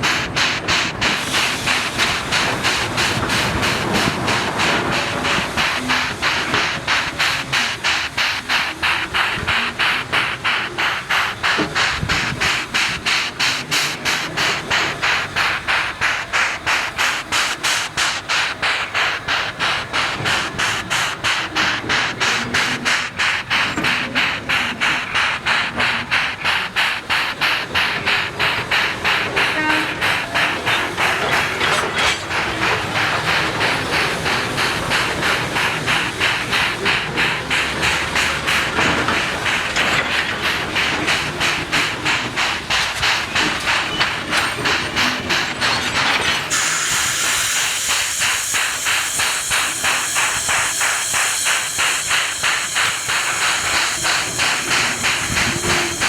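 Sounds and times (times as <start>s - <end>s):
steam hiss: 0.0s - 56.0s
steam locomotive chuffing: 0.0s - 56.0s.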